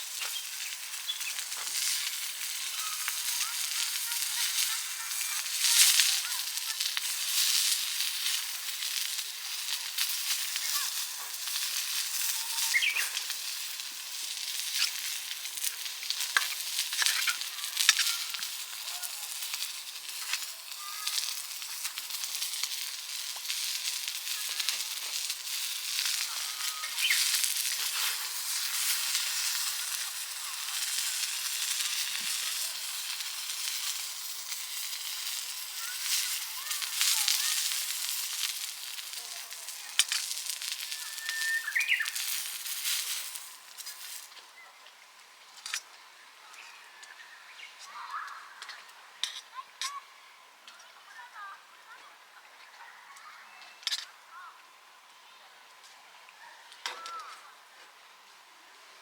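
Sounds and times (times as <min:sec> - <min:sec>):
meat sizzling on a grill: 0:00.0 - 0:59.0.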